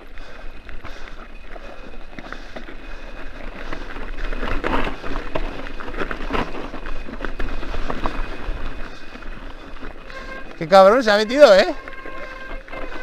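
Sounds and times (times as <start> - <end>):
bike rattling: 0.0 - 13.0
tyres crunching over gravel: 0.0 - 13.0.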